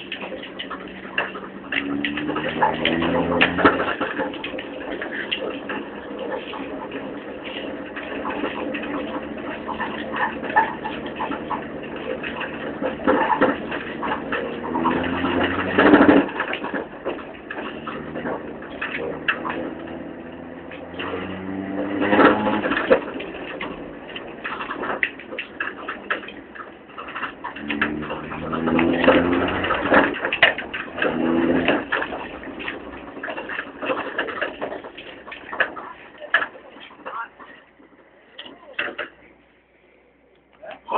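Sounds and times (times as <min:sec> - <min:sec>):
sofa rattling dragged over ground: 0:00.0 - 0:38.1
towing vehicle engine: 0:00.0 - 0:40.9.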